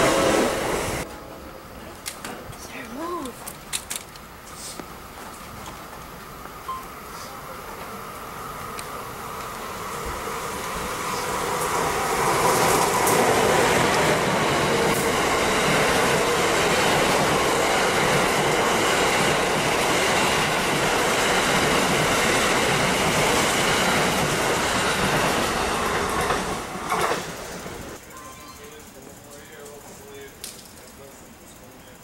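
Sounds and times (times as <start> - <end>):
train wheels on rails: 0.0 - 32.0.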